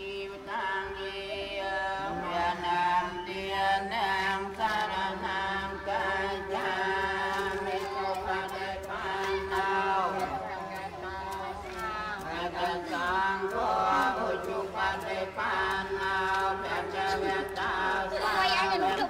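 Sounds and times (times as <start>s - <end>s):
group prayer chanting: 0.0s - 19.0s.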